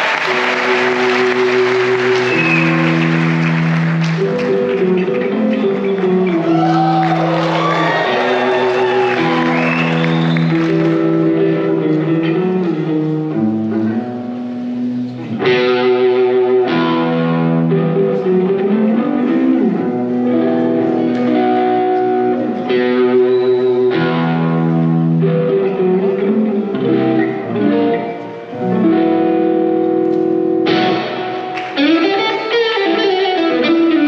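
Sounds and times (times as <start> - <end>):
electric guitar chords: 0.0 - 34.0.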